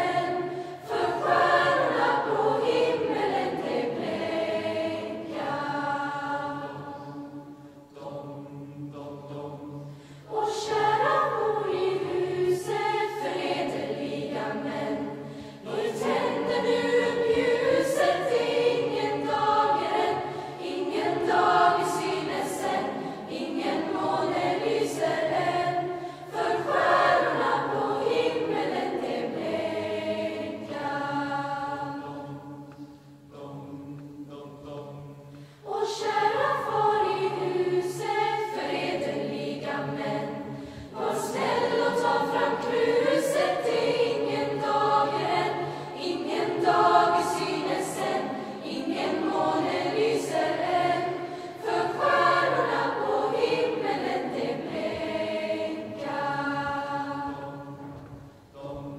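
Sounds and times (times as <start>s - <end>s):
youth choir singing: 0.0s - 58.9s.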